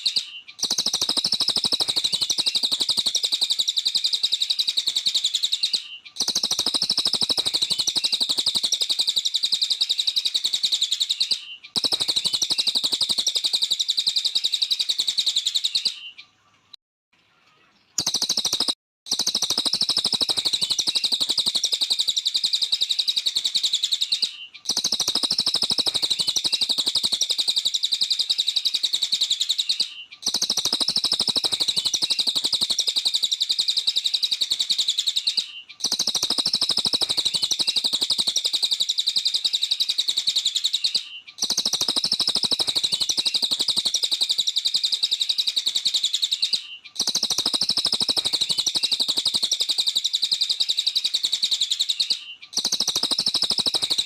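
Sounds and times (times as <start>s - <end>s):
songbird high trill: 0.0s - 16.3s, 18.0s - 54.0s.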